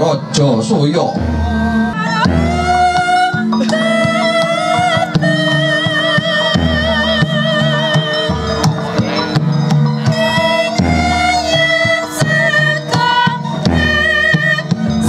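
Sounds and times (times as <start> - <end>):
high melodic voice with vibrato: 0.0 - 9.4, 10.0 - 15.0
drum strokes: 0.0 - 15.0
gamelan music: 0.0 - 15.0.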